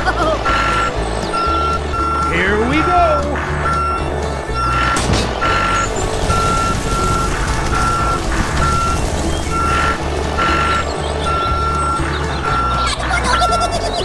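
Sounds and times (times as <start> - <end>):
low engine hum: 0.0 - 14.0
reversing alarm beeping: 0.4 - 13.0.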